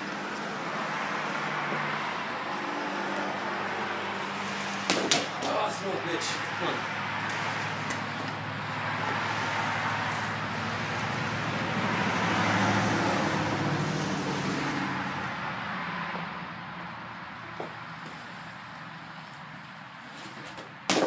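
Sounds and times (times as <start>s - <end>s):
car passing by: 0.0s - 20.6s.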